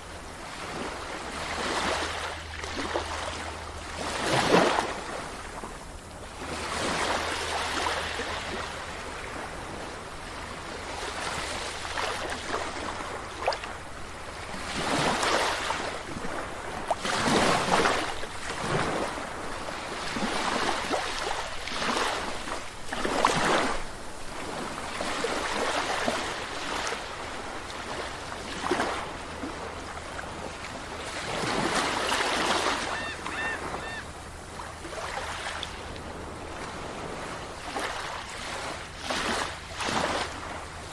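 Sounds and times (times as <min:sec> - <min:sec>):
sea waves breaking on beach: 0:00.0 - 0:40.9.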